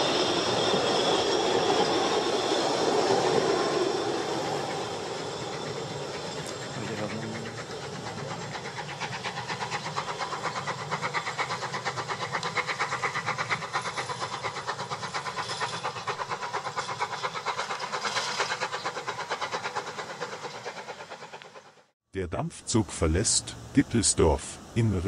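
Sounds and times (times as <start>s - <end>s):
steam locomotive exhaust beating: 0.0s - 25.0s.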